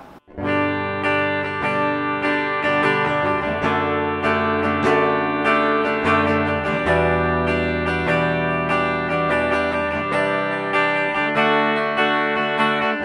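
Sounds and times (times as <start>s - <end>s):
clean electric guitar playing: 0.0s - 13.0s.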